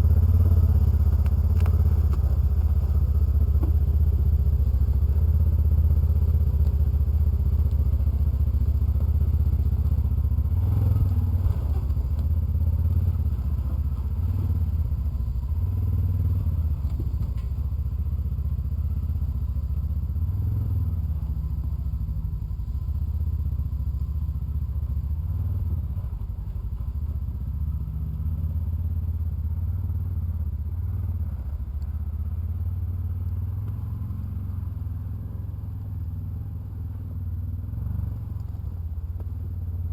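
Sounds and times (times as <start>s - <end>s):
utility vehicle engine hum: 0.0s - 39.9s.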